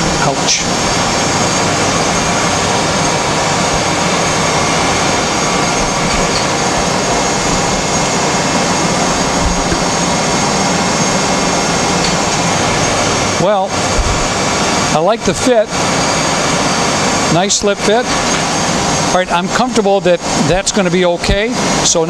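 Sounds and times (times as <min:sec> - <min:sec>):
machine shop rushing noise: 0:00.0 - 0:22.0.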